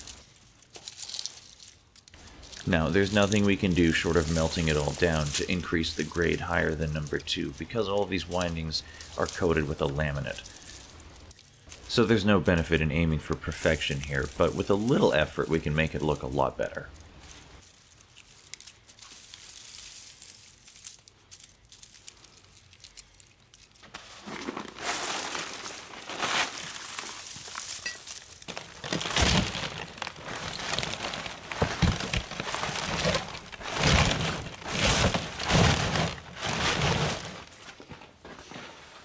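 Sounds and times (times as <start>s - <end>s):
copper wire crinkling and rattling: 0.0s - 37.8s.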